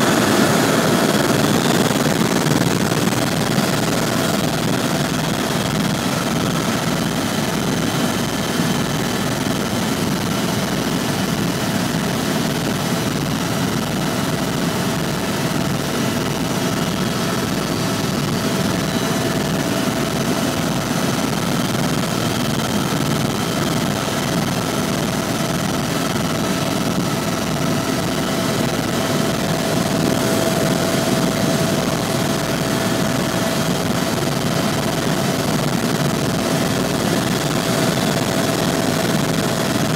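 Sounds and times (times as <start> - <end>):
helicopter engine and rotor drone: 0.0 - 39.9
steady whine: 0.0 - 39.9.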